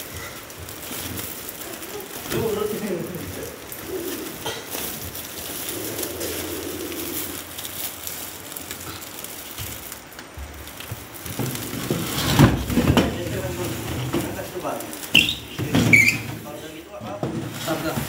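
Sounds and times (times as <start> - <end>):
plastic sack crinkling: 0.0 - 18.0.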